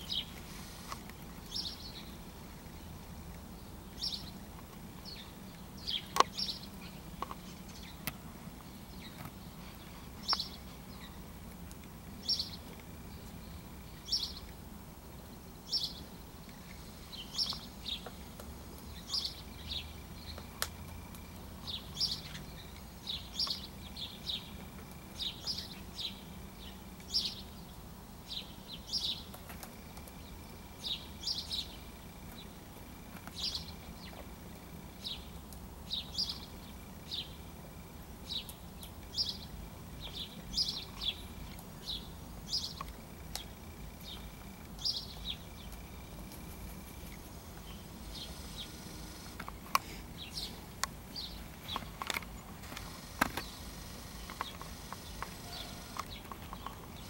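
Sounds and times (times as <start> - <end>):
bird chirping: 0.0 - 0.4, 1.1 - 11.3, 12.2 - 14.6, 15.6 - 18.3, 18.9 - 32.6, 33.2 - 35.3, 35.9 - 37.5, 38.2 - 46.8, 47.6 - 57.0
faint low background noise: 0.0 - 57.0.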